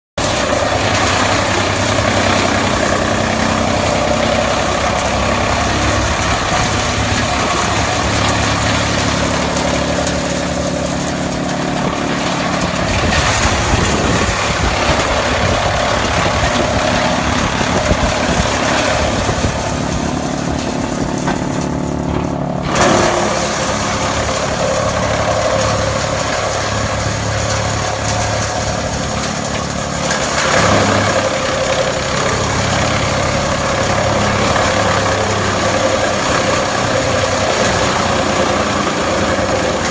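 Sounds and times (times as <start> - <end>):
loud mechanical jolt: 0.2 - 39.9
tractor engine running: 0.2 - 39.9
wood chipper whirring: 0.2 - 39.9.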